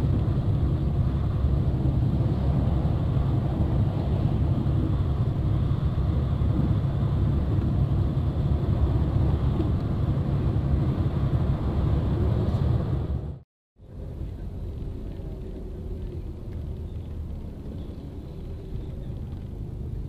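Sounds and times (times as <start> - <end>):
engine and tyre rumble: 0.0 - 20.0.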